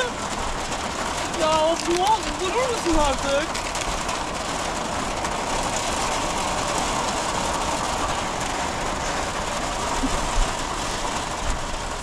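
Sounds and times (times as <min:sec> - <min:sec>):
heavy rain on tent roof: 0:00.0 - 0:12.0.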